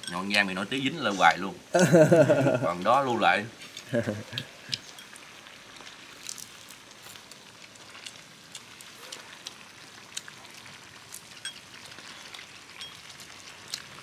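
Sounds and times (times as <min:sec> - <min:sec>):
stew simmering in a pot: 0:00.0 - 0:14.0.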